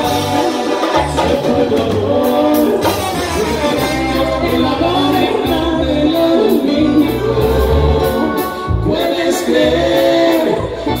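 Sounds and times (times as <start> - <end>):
live latin band playing: 0.0 - 11.0
person singing: 0.0 - 11.0.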